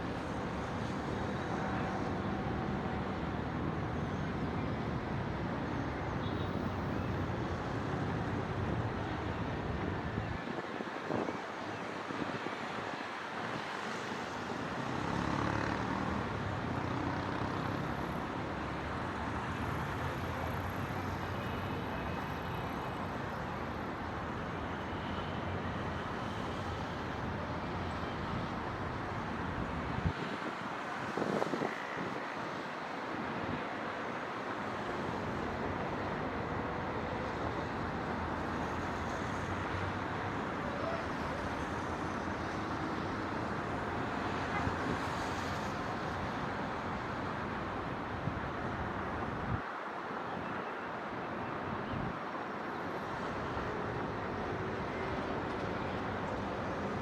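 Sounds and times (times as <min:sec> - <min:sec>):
road traffic: 0:00.0 - 0:57.0.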